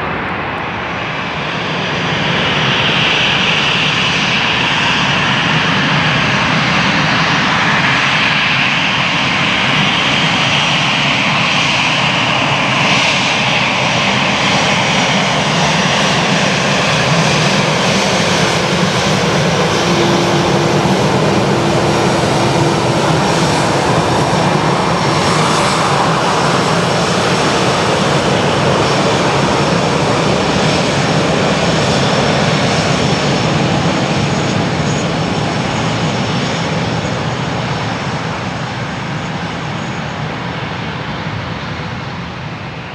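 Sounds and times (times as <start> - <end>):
jet engines roaring with whine: 0.0 - 42.9.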